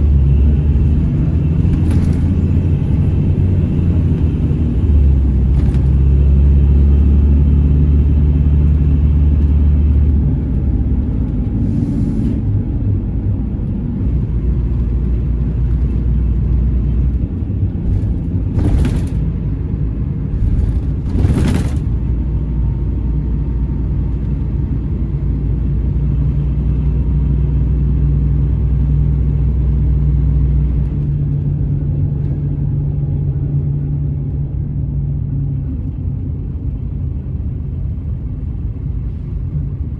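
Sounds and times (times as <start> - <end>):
coach diesel engine running: 0.0 - 39.9.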